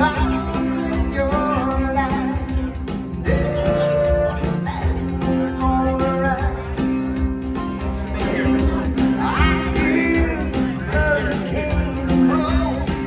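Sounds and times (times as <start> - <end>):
person singing: 0.0 - 7.3, 8.1 - 13.0
guitar: 0.0 - 13.0.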